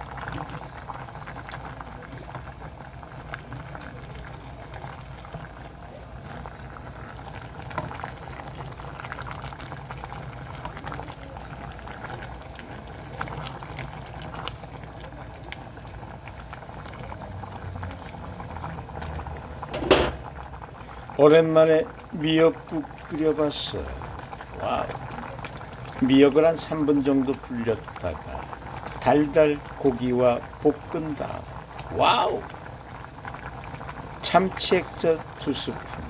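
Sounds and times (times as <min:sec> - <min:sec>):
soup bubbling in a pot: 0:00.0 - 0:36.0.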